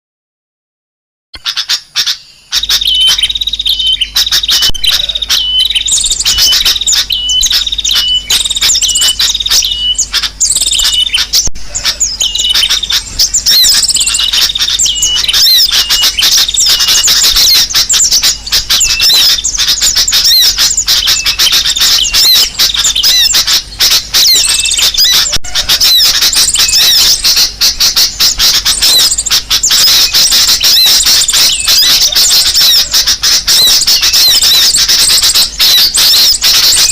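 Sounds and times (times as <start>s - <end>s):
rapid high bird chirps and trills: 1.4s - 36.9s.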